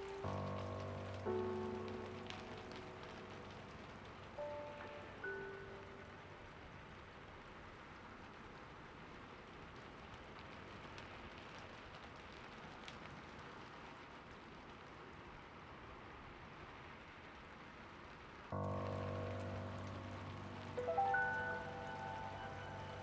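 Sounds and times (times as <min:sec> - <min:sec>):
raindrop ticks: 0:00.0 - 0:23.0
soft rainfall hiss: 0:00.0 - 0:23.0.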